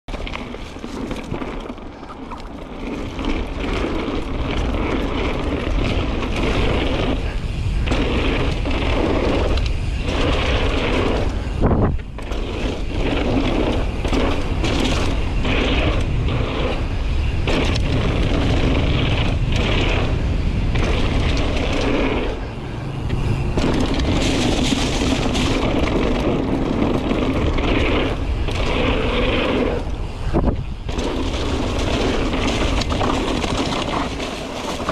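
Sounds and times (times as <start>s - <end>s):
bike rattling and knocking: 0.1s - 34.9s
tyres rumbling over dirt: 0.1s - 34.9s
wind noise on microphone: 0.1s - 34.9s.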